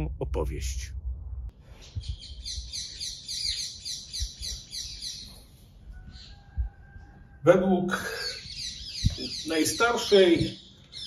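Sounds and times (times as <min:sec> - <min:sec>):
songbird chirping: 0:01.7 - 0:11.0.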